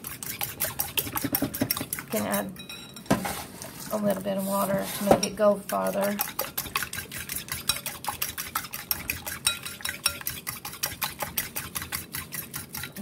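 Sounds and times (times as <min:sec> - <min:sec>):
fork beating eggs in a bowl: 0:00.0 - 0:13.0.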